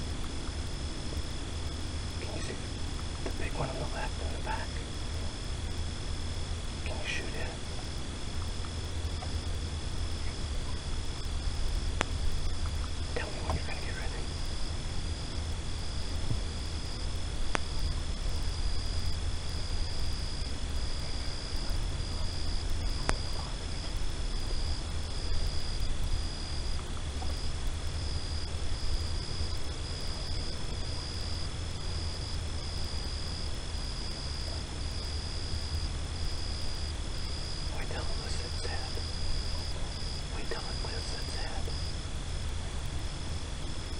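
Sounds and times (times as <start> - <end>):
high pulsing insect call: 0.0 - 43.9
low rumble: 0.0 - 43.9
insect trilling: 0.8 - 42.0.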